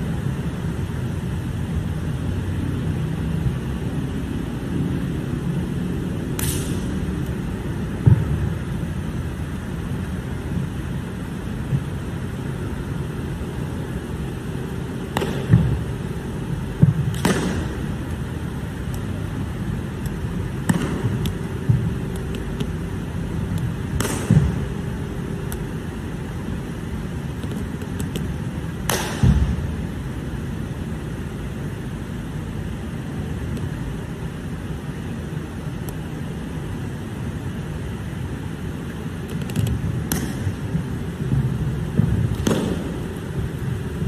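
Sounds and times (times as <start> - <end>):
steady background hum: 0.0 - 44.0.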